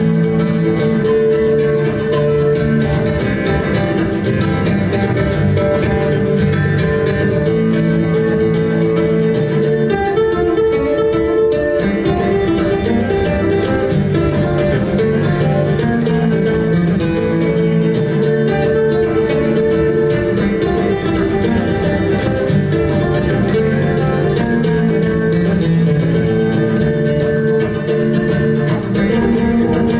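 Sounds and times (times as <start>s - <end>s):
flamenco guitar playing: 0.0s - 29.9s.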